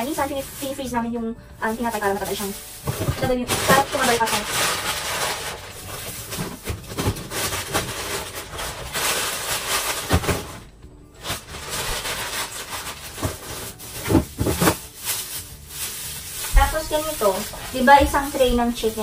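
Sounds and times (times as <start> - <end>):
plastic bags rustling and crinkling: 0.0 - 19.0
packets and drawers knocking: 1.8 - 19.0.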